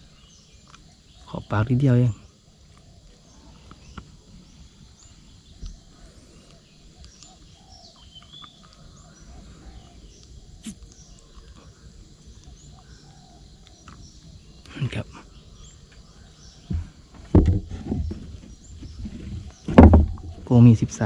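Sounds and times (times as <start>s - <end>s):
birds chirping and calling: 0.0s - 21.0s
faint outdoor background noise: 0.0s - 21.0s.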